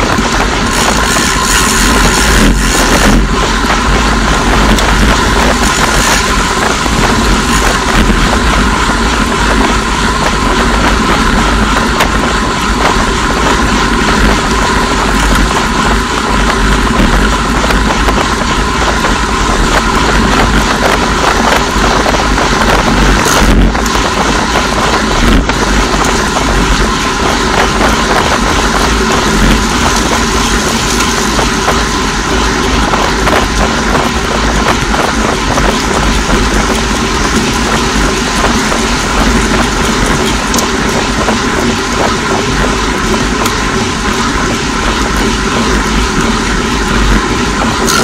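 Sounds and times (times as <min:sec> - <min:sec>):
tyre and road noise: 0:00.0 - 0:48.0
wind buffeting microphone: 0:00.0 - 0:48.0.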